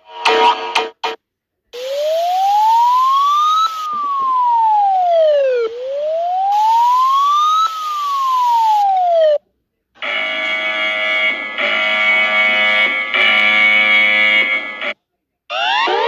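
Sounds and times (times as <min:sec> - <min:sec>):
siren wailing: 0:01.8 - 0:09.4, 0:10.0 - 0:16.0.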